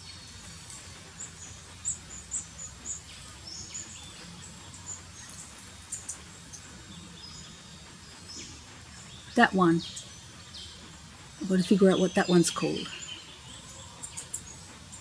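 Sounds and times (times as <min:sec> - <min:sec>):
low outdoor hiss: 0:00.0 - 0:15.0
small birds chirping: 0:00.0 - 0:15.0.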